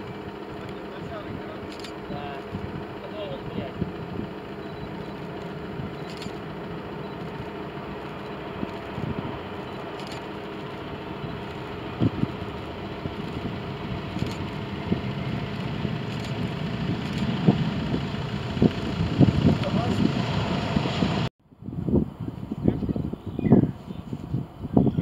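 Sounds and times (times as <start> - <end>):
jet engine rumble and whine: 0.0 - 25.0.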